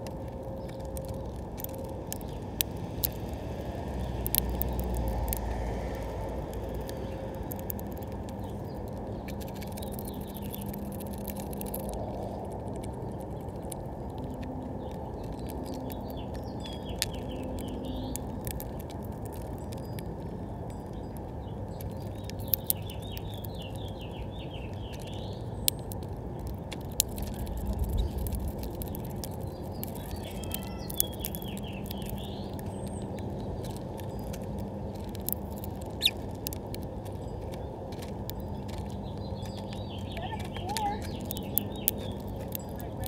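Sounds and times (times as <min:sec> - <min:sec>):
beaks cracking seeds: 0:00.0 - 0:43.0
finches chirping: 0:06.6 - 0:43.0.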